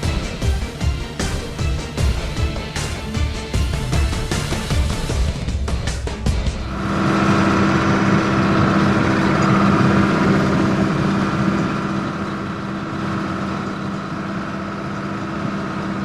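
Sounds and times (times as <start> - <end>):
combine harvester droning: 0.0 - 16.0.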